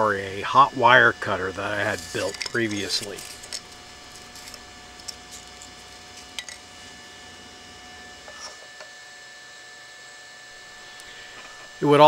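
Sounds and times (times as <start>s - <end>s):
thin electrical whine: 0.0s - 12.0s.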